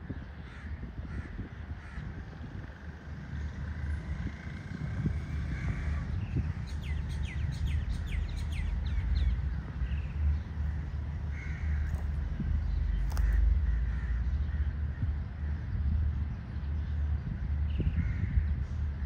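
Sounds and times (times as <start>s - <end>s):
low rumble: 0.0s - 19.0s
birds cawing: 0.2s - 15.6s, 17.8s - 18.6s.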